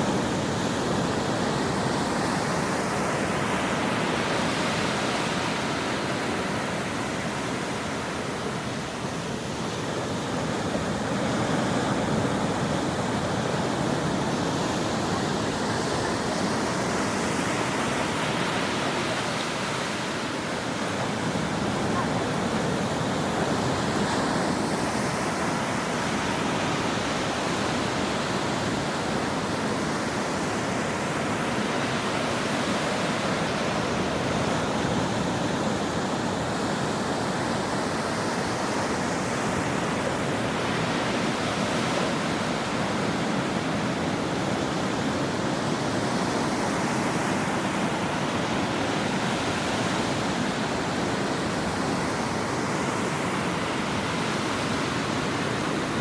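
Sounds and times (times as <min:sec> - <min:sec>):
ocean surf washing on shore: 0:00.0 - 0:56.0.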